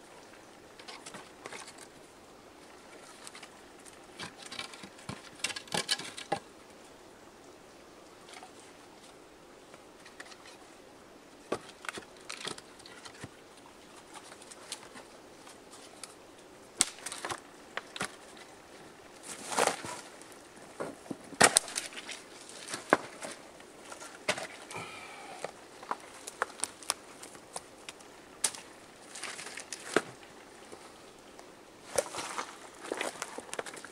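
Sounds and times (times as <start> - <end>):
rustling twigs and leaves: 0.0 - 6.9, 8.0 - 33.9.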